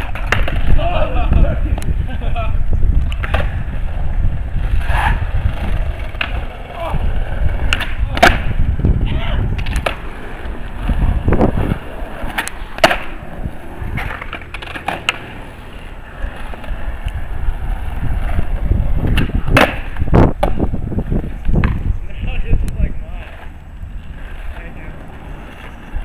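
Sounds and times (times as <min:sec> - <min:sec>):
skateboard clacking on road: 0:00.0 - 0:26.0
skateboard wheels rolling on asphalt: 0:00.0 - 0:26.0.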